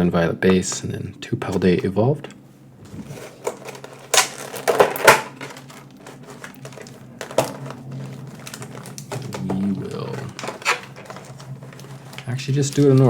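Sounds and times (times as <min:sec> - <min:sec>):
foil wrappers crinkling: 0:00.0 - 0:13.0.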